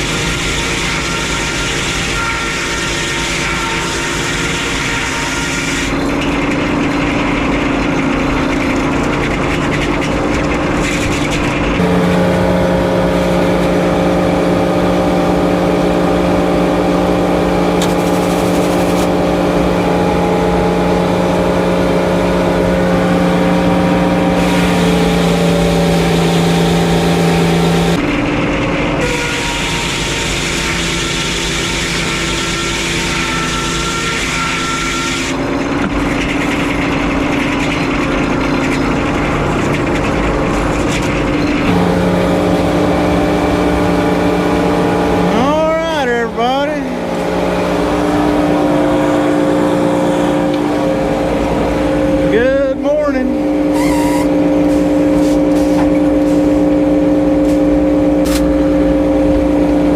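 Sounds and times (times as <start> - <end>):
circular sawmill sawing wood: 0.0 - 28.0, 29.0 - 59.9
loud steady hum: 0.0 - 59.9.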